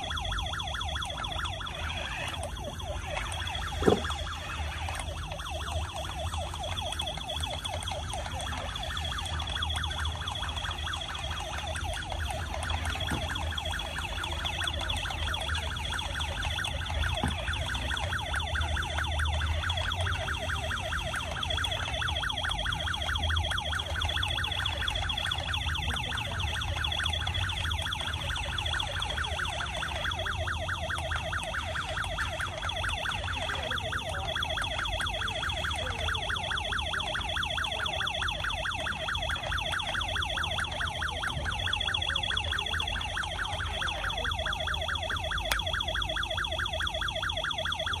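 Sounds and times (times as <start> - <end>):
toy electronic police siren: 0.0 - 48.0.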